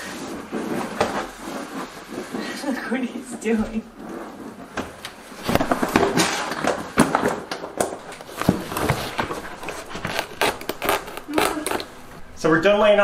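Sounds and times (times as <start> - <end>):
plastic membrane crackling: 0.0 - 12.3.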